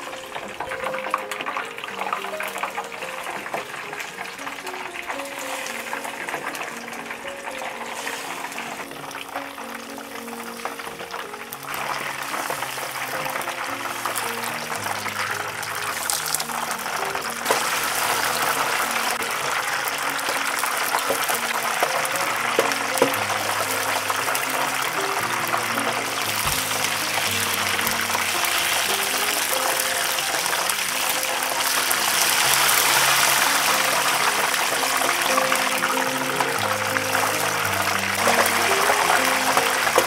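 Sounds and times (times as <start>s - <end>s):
background music with low notes: 0.0s - 40.0s
hot oil sizzling and splashing: 0.0s - 40.0s.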